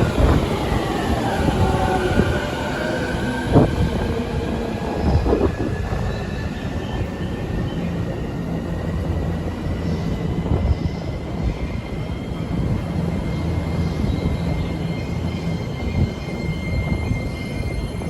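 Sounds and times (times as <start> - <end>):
electric train rumble: 0.0 - 18.0.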